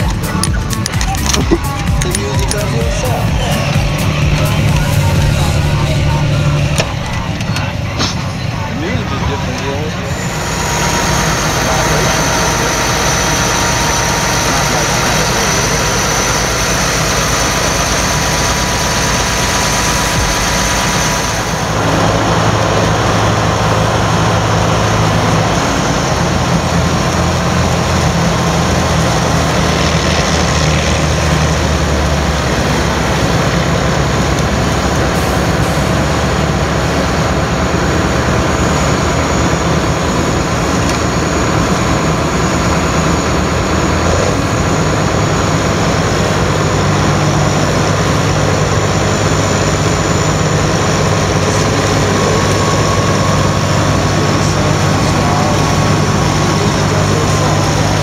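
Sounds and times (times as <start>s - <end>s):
diesel farm machinery engines: 0.0s - 58.0s.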